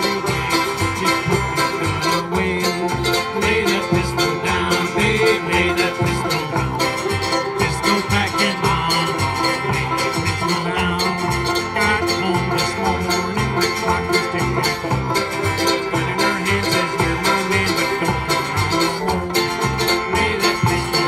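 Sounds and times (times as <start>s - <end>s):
acoustic guitar: 0.0s - 21.0s
banjo picking: 0.0s - 21.0s
mandolin picking: 0.0s - 21.0s
upright bass plucking: 0.0s - 21.0s.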